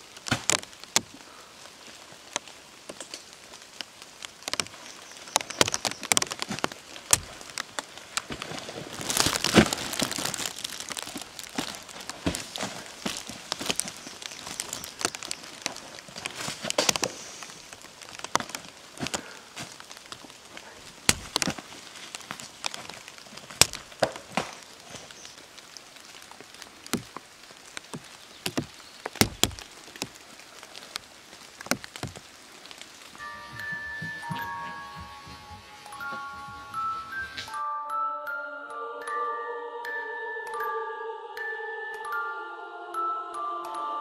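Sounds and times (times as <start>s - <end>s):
footsteps snapping twigs and leaves: 0.0s - 37.6s.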